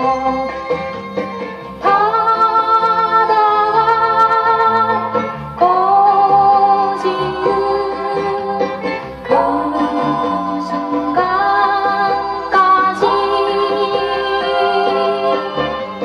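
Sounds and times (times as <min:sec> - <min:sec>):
folk song from vinyl record: 0:00.0 - 0:16.0.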